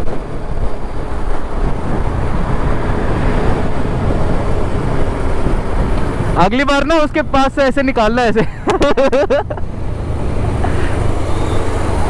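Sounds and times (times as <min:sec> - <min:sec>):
wind rush on microphone: 0:00.0 - 0:12.0.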